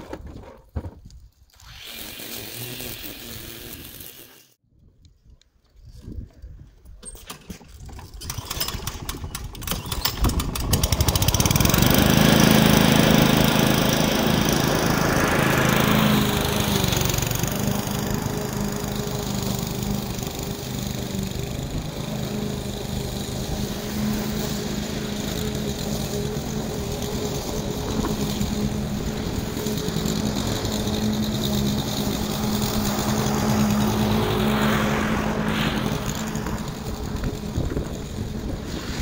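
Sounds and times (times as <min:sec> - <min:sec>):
lawn mower engine running: 0:01.6 - 0:04.6, 0:07.4 - 0:39.0.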